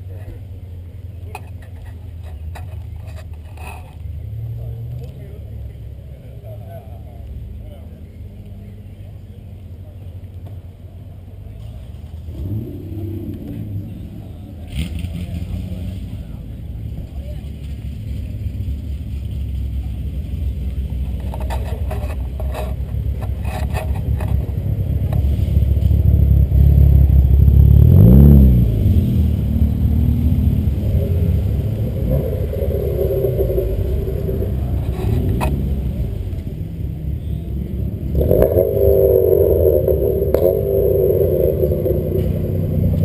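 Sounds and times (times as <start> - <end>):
cars driving by: 0.0 - 43.0.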